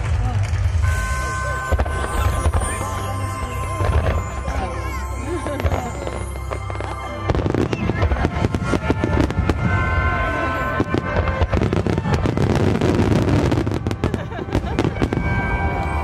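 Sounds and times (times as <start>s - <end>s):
fireworks bursting and crackling: 0.0s - 16.0s
song playing: 0.8s - 16.0s.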